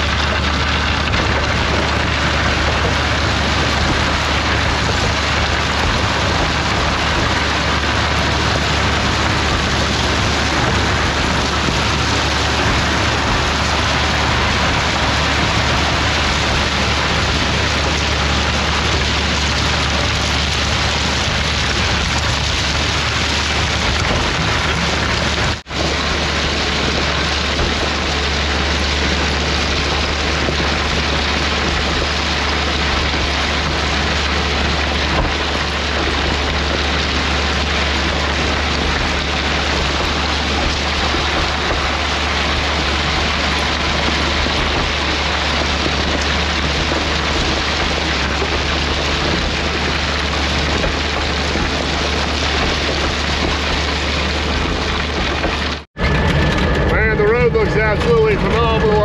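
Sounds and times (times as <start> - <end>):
constant low hum: 0.0 - 59.0
heavy equipment rushing noise: 0.0 - 59.0.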